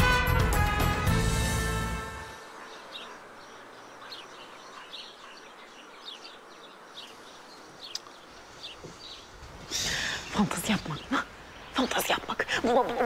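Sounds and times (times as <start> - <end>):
soft outdoor hiss: 0.6 - 13.0
small birds chirping: 2.2 - 13.0.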